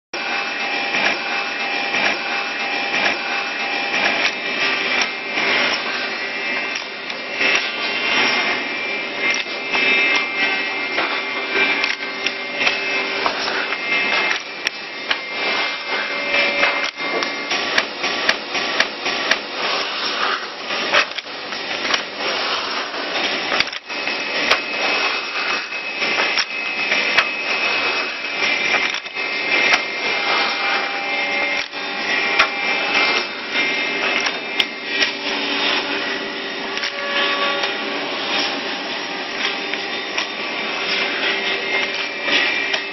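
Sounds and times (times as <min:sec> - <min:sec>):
electric drill motors whining: 0:00.2 - 0:42.9.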